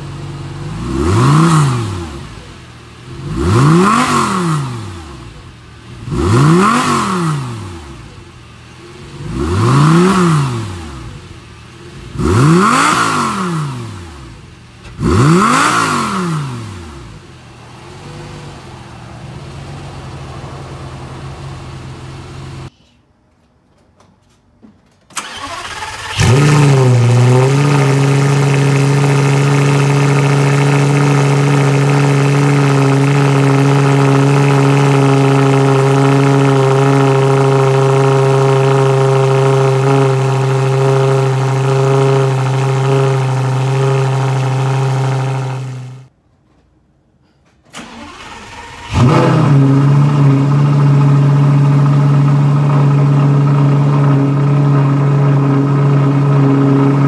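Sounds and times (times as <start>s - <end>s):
car engine idling loudly: 0.0s - 22.7s, 25.2s - 46.1s, 48.9s - 57.0s
car engine starting with rev: 0.0s - 22.7s, 25.1s - 46.1s, 47.7s - 57.0s.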